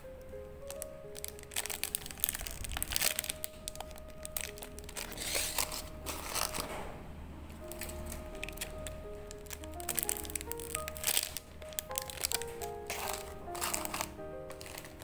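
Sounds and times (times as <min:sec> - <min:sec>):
background music: 0:00.0 - 0:15.0
plastic bag crinkling: 0:00.6 - 0:06.8, 0:07.5 - 0:15.0
shredded paper rustling: 0:00.7 - 0:06.8, 0:07.6 - 0:15.0.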